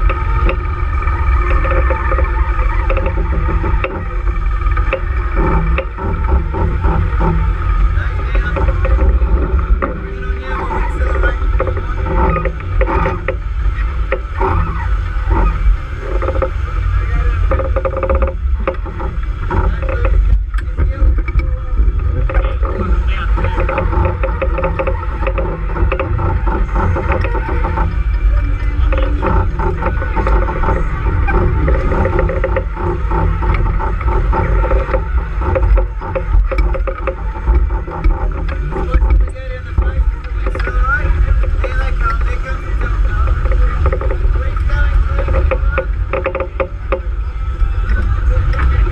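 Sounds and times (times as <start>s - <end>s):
water slapping along hull: 0.0s - 48.9s
wind buffeting microphone: 0.0s - 48.9s.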